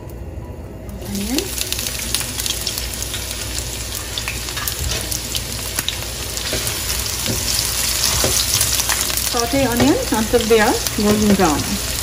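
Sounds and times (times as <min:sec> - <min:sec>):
onions sizzling in oil: 0:00.9 - 0:12.0.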